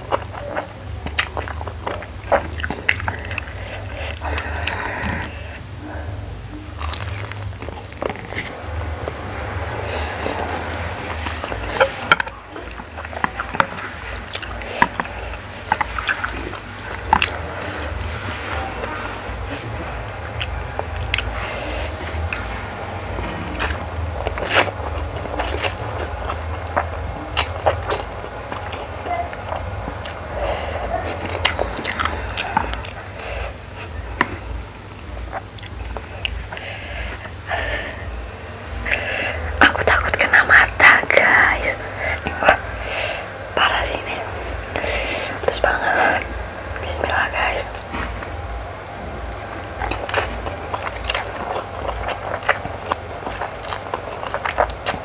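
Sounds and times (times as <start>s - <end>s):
slurping and chewing: 0.0s - 6.0s, 6.7s - 55.0s.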